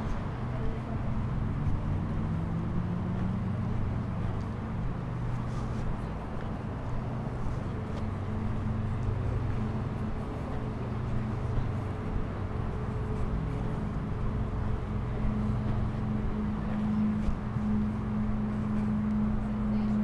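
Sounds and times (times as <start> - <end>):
city ambience: 0.0 - 20.0
low engine hum: 0.0 - 20.0.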